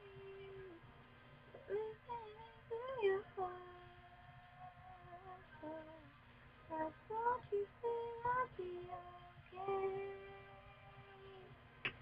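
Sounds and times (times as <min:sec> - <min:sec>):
girl singing without words: 0:00.0 - 0:00.9, 0:01.6 - 0:11.7.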